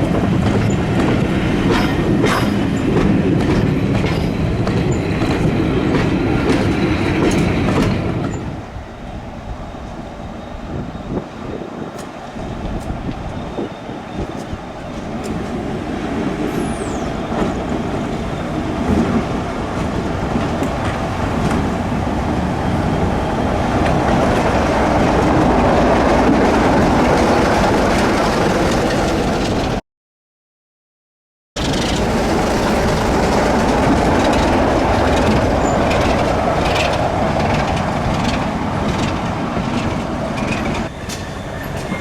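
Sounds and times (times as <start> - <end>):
train approaching: 0.0 - 29.8, 31.6 - 42.0.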